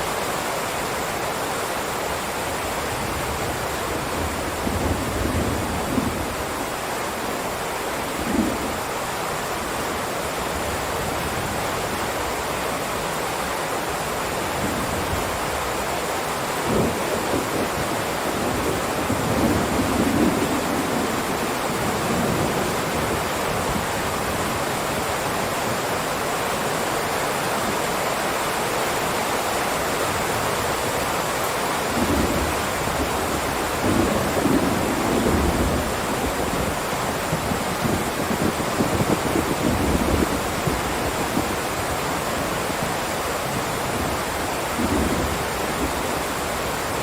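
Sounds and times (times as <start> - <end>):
heavy rain downpour: 0.0 - 47.0.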